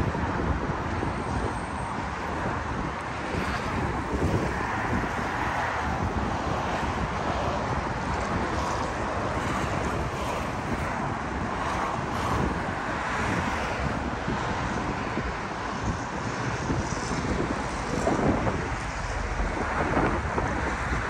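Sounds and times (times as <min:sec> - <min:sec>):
traffic noise: 0:00.0 - 0:21.0
wind buffeting microphone: 0:00.0 - 0:21.0.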